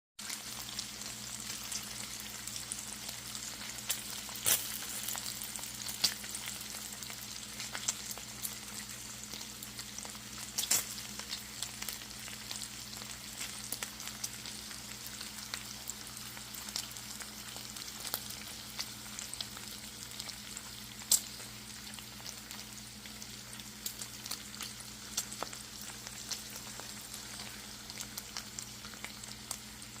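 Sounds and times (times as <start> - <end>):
food frying with crackles and pops: 0.2 - 30.0.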